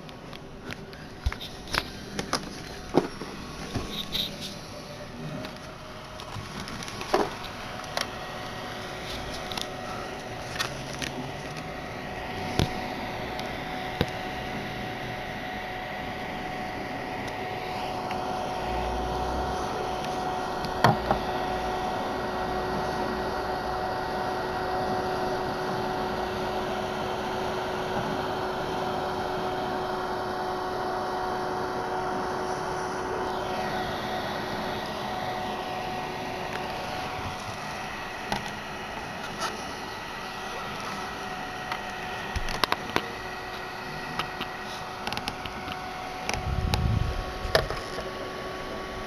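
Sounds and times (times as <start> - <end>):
mini fridge fan humming: 0.0 - 49.0.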